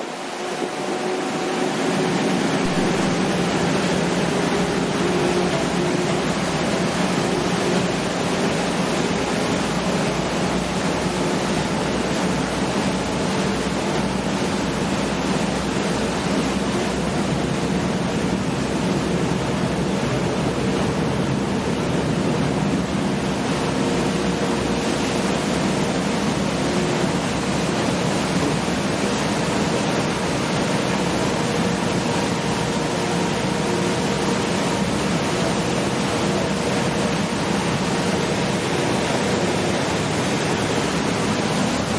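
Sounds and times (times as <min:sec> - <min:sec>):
ferry engines droning: 0:00.0 - 0:41.9
rushing water and wind: 0:00.0 - 0:41.9.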